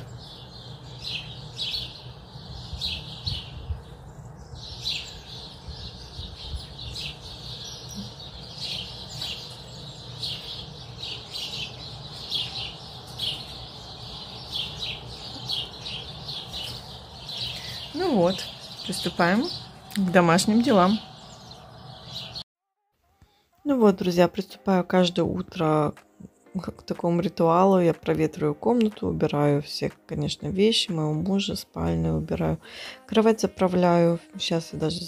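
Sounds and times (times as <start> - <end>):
songbirds chirping: 0.0 - 22.4, 23.8 - 35.0.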